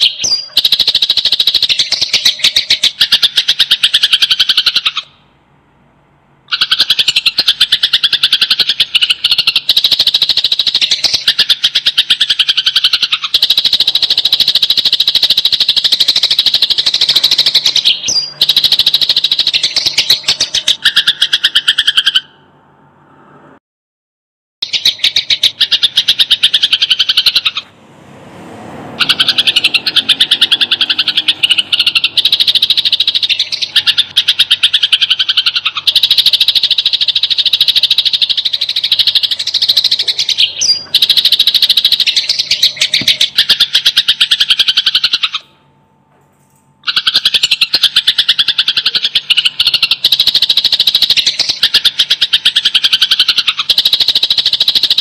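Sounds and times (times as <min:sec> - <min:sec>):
sparrows chattering chirps: 0:00.0 - 0:05.1, 0:06.5 - 0:22.2, 0:24.6 - 0:27.7, 0:29.0 - 0:45.4, 0:46.8 - 0:55.0.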